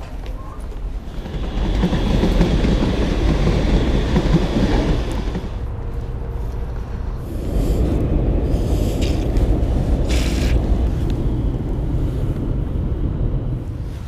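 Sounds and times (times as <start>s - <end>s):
trains rumbling on tracks: 0.0s - 14.0s.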